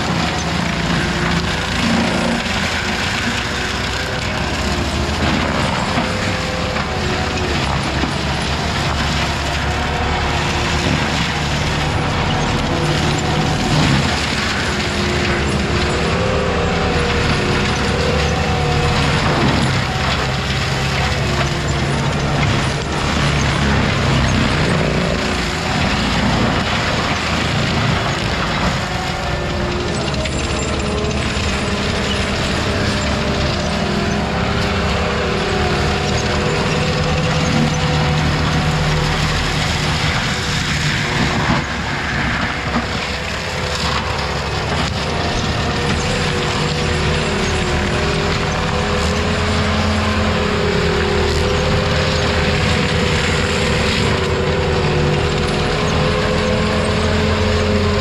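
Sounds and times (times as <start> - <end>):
heavy equipment engine under load: 0.0 - 58.0.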